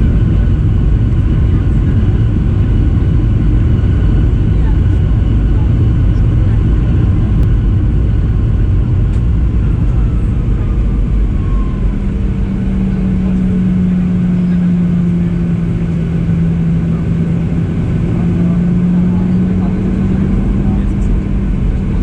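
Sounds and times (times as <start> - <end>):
aircraft engine rumble in cabin: 0.0 - 22.0.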